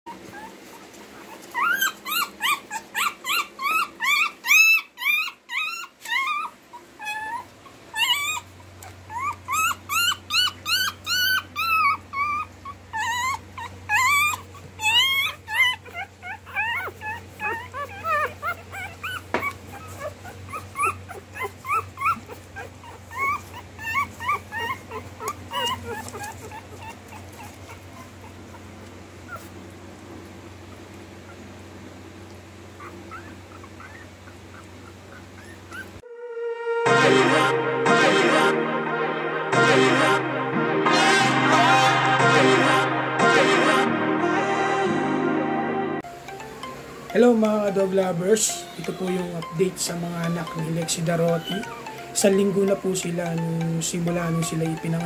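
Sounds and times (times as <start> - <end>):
puppies whimpering and squeaking: 0.1 - 36.2, 46.0 - 55.0.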